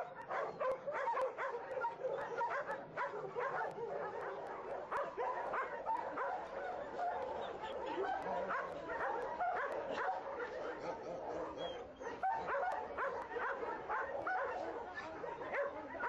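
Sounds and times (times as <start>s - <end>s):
many dogs barking and yelping: 0.0s - 16.0s.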